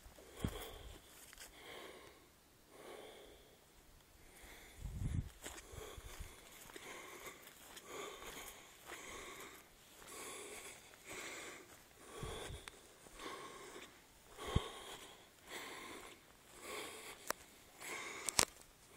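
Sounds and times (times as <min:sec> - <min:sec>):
person breathing hard: 0:00.2 - 0:03.6, 0:04.2 - 0:18.9.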